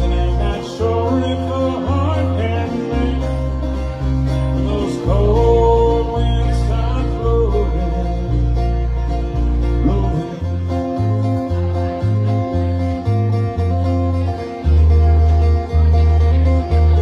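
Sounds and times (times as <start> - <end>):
acoustic bluegrass band playing: 0.0 - 17.0.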